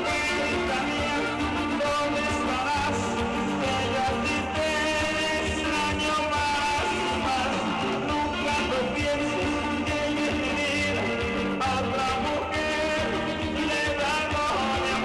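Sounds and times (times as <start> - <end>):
live band playing amplified music: 0.0 - 15.0.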